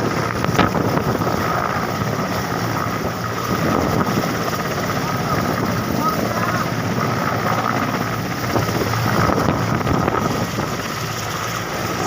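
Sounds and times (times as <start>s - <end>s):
helicopter rotor and engine: 0.0s - 12.0s
high turbine whine: 0.0s - 12.0s
wind buffeting microphone: 0.0s - 12.0s.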